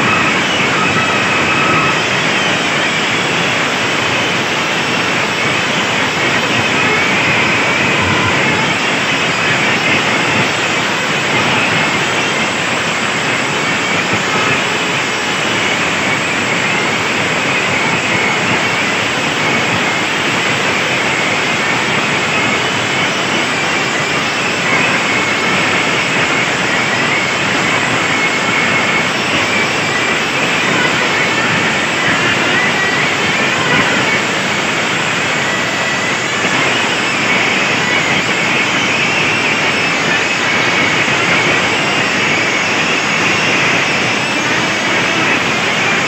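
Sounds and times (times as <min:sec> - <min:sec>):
distorted loudspeaker roar: 0:00.0 - 0:46.0.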